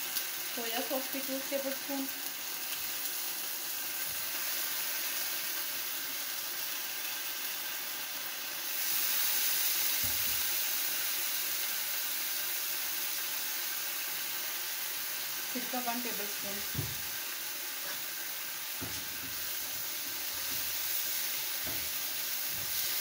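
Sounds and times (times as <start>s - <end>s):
vegetables sizzling in frying pan: 0.0s - 23.0s.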